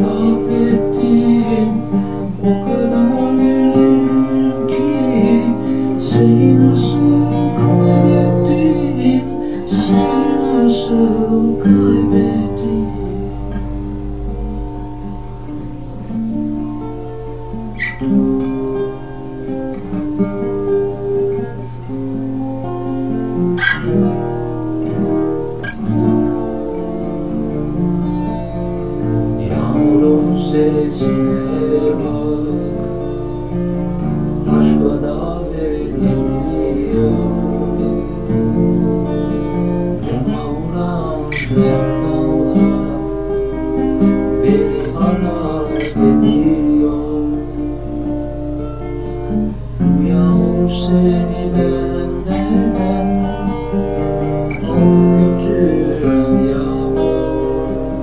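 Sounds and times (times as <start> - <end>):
fingerpicked acoustic guitar: 0.0 - 58.0.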